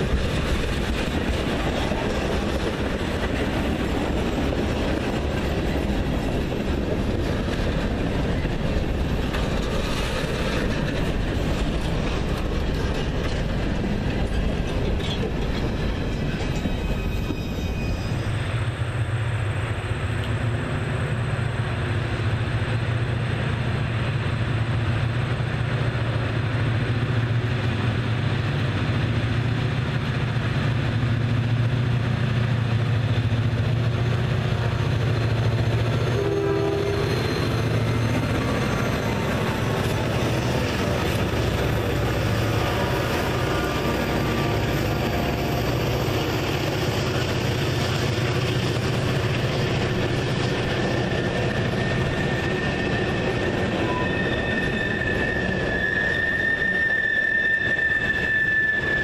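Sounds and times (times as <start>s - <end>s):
diesel locomotive engine drone: 0.0s - 59.0s
freight cars rolling on rails: 0.0s - 59.0s.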